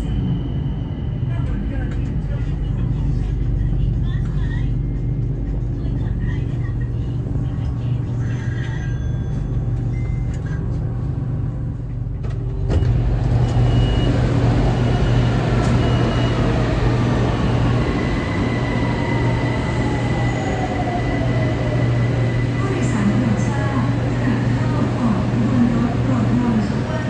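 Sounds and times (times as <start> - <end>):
electric train hum: 0.0 - 27.0.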